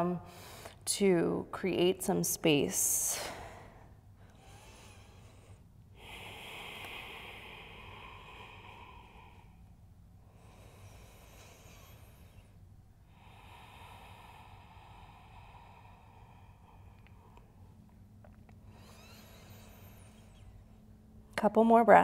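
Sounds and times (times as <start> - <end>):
woman breathing deeply: 0.2 - 0.9, 2.8 - 21.2.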